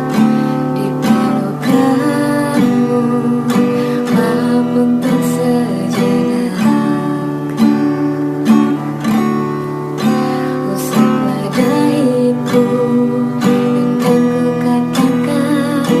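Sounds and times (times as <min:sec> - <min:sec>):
acoustic guitar strummed slowly: 0:00.0 - 0:16.0.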